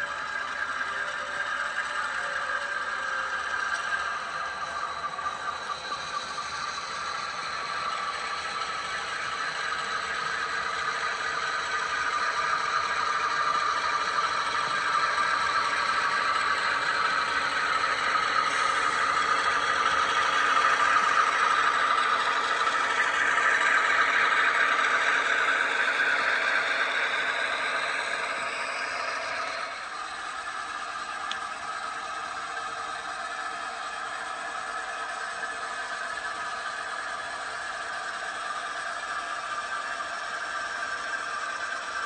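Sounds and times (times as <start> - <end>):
model train motors whirring: 0.0 - 42.0
wheel squeal: 0.0 - 42.0.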